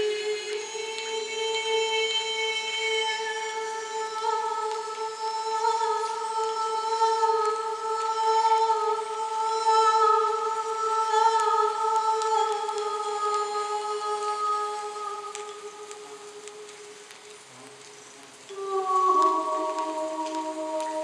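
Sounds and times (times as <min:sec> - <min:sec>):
woman humming held notes: 0:00.0 - 0:17.4, 0:18.5 - 0:21.0.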